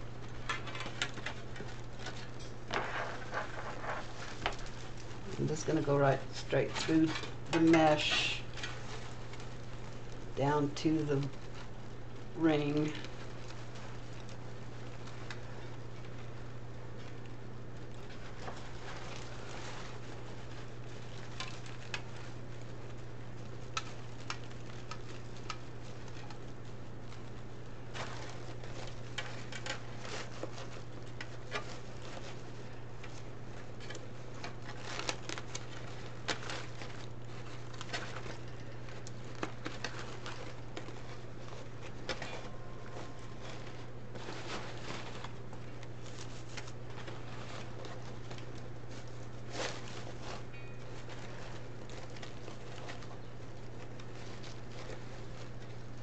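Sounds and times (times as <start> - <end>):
mesh and ribbon rustling: 0.0 - 56.0
steady low hum: 0.0 - 56.0.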